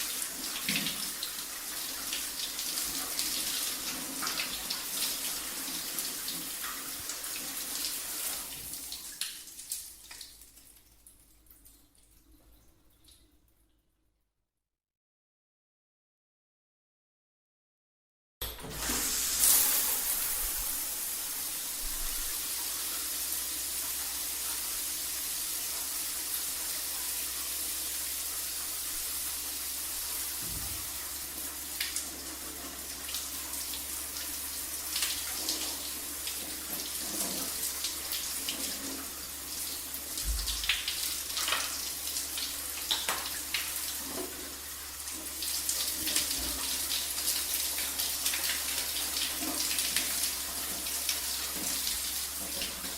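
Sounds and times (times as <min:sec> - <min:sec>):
shower water spraying: 0:00.0 - 0:10.3, 0:18.6 - 0:52.9.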